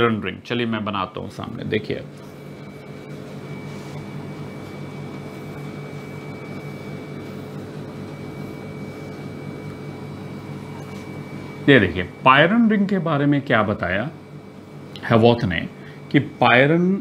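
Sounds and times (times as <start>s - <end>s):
faint high whine: 0.0s - 14.3s
machine humming: 0.0s - 17.0s.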